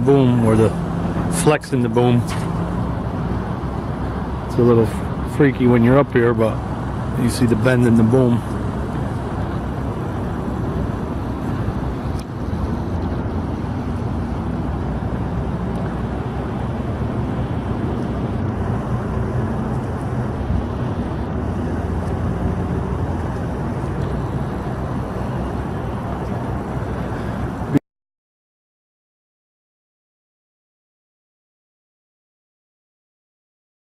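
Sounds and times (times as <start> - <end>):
low engine rumble: 0.0 - 27.8.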